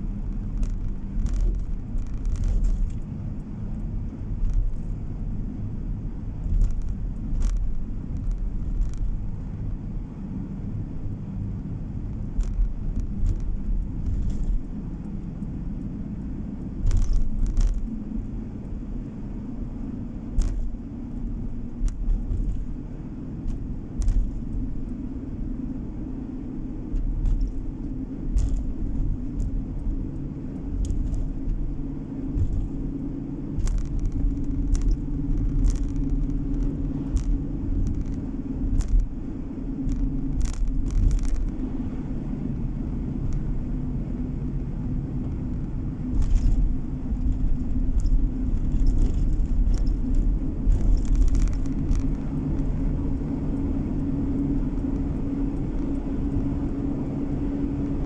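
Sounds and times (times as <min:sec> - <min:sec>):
car engine drone: 0:00.0 - 0:58.0
tyre and road rumble: 0:00.0 - 0:58.0.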